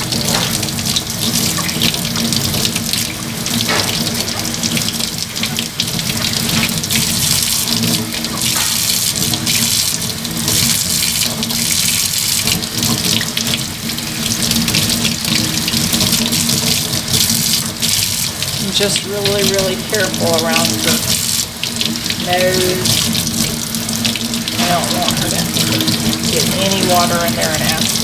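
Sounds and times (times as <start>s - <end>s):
tap water splashing over puppy: 0.0s - 28.0s.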